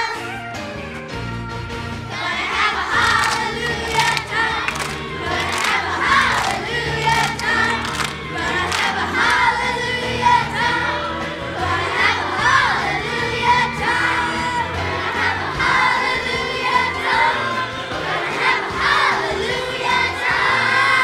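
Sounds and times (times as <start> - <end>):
instrumental music: 0.0 - 21.0
children's choir singing: 2.1 - 21.0.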